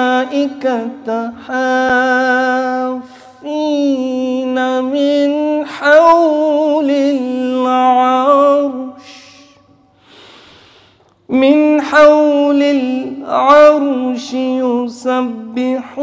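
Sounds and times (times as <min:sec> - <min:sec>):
man chanting melodically: 0:00.0 - 0:09.3, 0:11.3 - 0:16.0.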